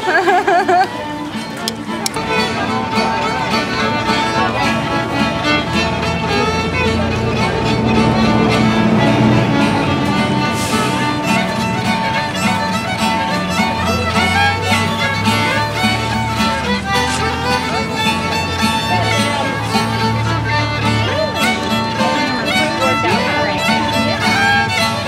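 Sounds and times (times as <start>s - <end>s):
acoustic guitar strumming: 0.0s - 25.0s
fiddle melody: 0.0s - 25.0s.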